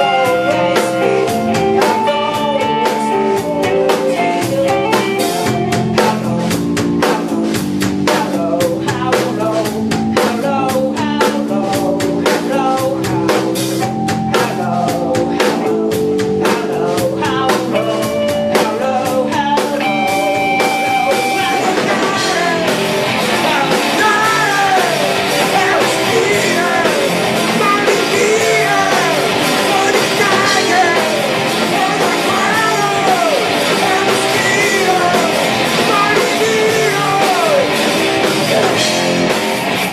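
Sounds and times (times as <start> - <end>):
drums hitting hard: 0.0 - 39.9
guitar riffs: 0.0 - 39.9
person singing: 0.0 - 39.9
punk rock band playing live: 0.0 - 39.9.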